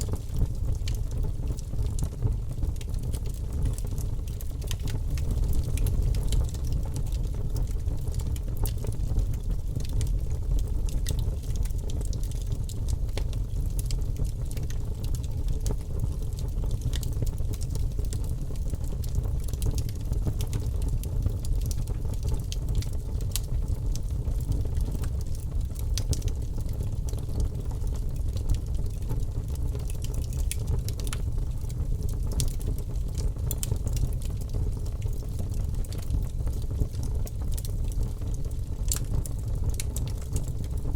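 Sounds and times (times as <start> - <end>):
logs crackling and popping: 0.0 - 40.9
low rumble of fire: 0.0 - 40.9.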